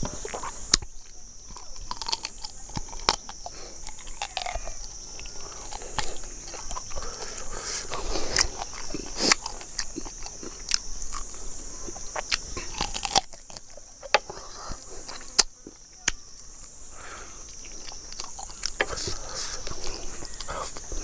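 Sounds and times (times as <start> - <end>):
chewing and lip-smacking: 0.0 - 16.8, 17.4 - 21.0
crunching on bone: 0.0 - 16.8, 17.4 - 21.0.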